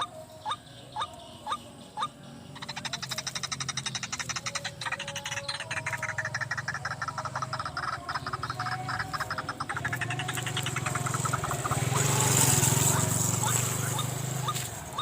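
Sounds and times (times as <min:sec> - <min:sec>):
croaking animal calls: 0:00.0 - 0:15.0.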